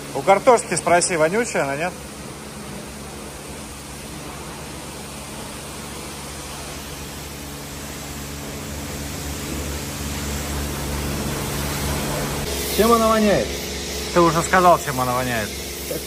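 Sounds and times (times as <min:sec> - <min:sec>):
hissing spray: 0:00.0 - 0:16.0
low machine hum: 0:00.0 - 0:16.0.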